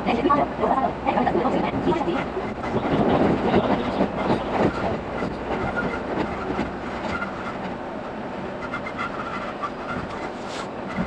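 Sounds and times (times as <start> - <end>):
train rattling rumble: 0.0 - 11.0.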